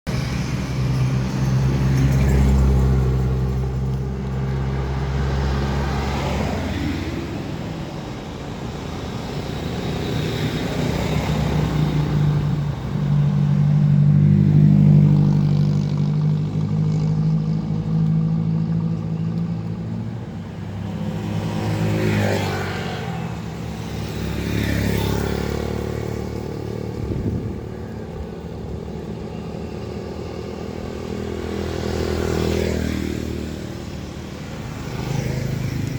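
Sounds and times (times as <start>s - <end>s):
cars driving past: 0.1s - 35.9s
steady engine hum: 0.1s - 35.9s.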